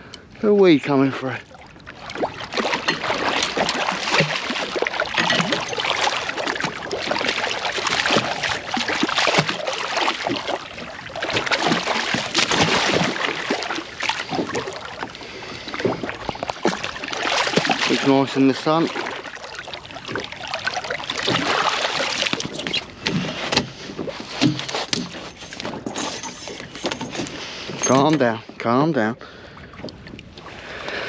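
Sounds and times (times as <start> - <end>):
knocks and rattles on boat: 0.0 - 29.1
water splashing against boat hull: 0.4 - 31.0.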